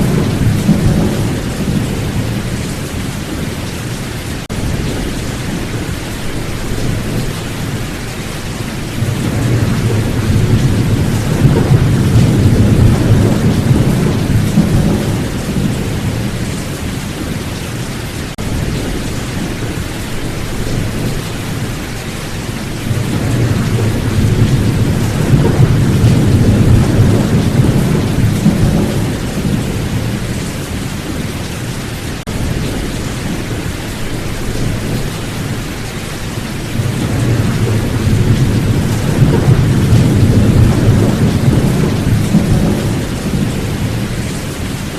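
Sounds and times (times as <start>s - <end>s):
heavy rain: 0.0s - 44.9s
thunder rumbling: 0.0s - 44.9s.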